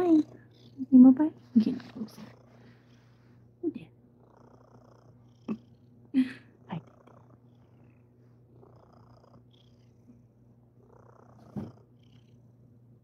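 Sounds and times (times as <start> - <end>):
cat purring: 0.0 - 3.4, 4.1 - 12.7.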